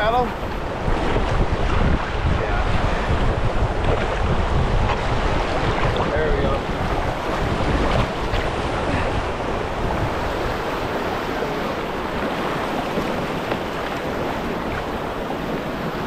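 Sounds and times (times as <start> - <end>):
river current rushing: 0.0 - 16.0
wind buffeting microphone: 0.0 - 16.0.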